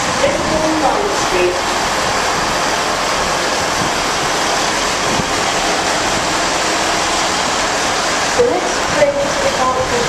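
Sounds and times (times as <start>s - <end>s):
diesel train passing: 0.0s - 10.0s.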